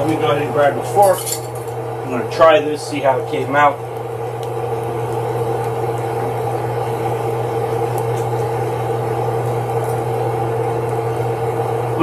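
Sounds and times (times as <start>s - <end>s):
range hood fan humming: 0.0s - 12.0s.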